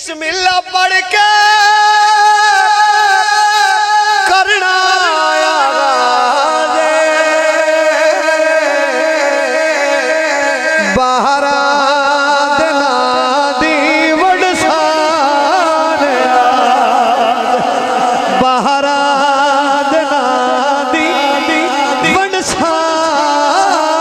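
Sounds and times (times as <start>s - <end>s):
man singing into microphone: 0.0s - 24.0s.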